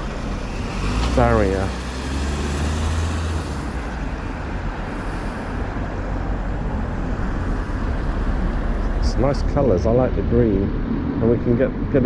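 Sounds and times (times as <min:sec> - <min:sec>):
street traffic noise: 0:00.0 - 0:12.0
van engine rumble: 0:00.0 - 0:12.0.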